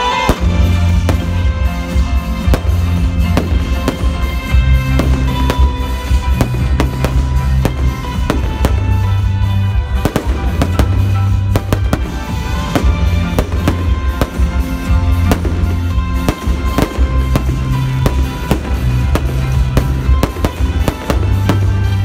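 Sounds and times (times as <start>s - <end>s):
firework bangs and crackles: 0.0s - 22.0s
loud music with bass line: 0.0s - 22.0s.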